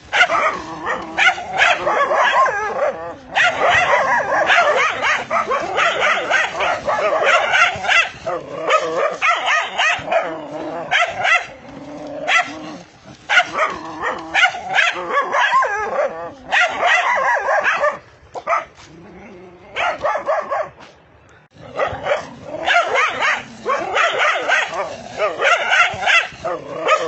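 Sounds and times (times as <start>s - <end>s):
dogs barking fiercely: 0.0s - 19.0s, 19.6s - 27.0s.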